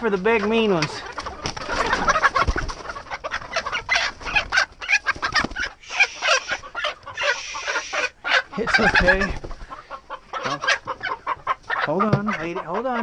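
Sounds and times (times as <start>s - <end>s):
hens squawking and clucking: 0.0s - 13.0s.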